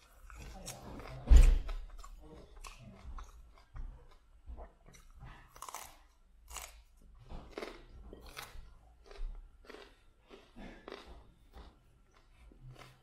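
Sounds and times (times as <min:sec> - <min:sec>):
person chewing raw broccoli: 0:00.0 - 0:13.0.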